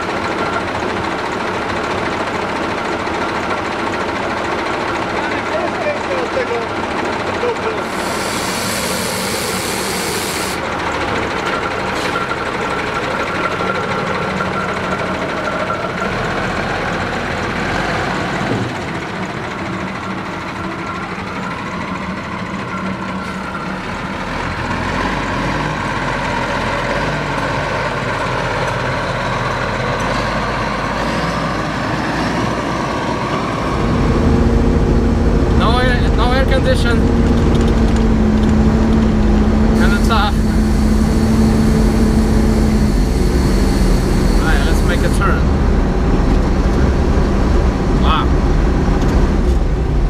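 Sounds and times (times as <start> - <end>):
diesel truck driving past: 0.0 - 50.0.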